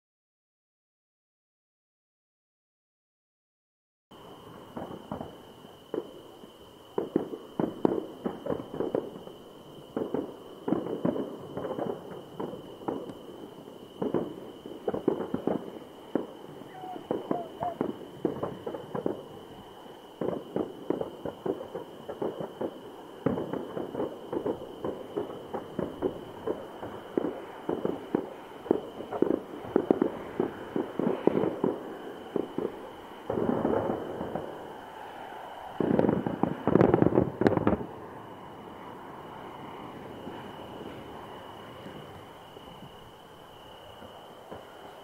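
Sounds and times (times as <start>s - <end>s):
fireworks bangs and crackling: 4.2s - 45.0s.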